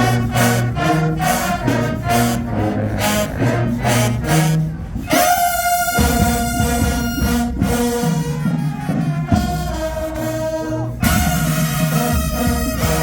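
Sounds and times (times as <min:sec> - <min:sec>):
brass horns sustained notes: 0:00.0 - 0:13.0
drum beats: 0:00.0 - 0:13.0
marching band playing: 0:00.0 - 0:13.0.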